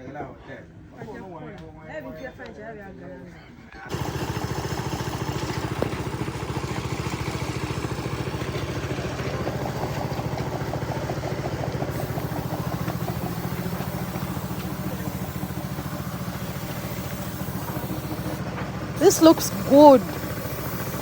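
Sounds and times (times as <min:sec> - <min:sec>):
small engine idling: 0:03.9 - 0:21.0.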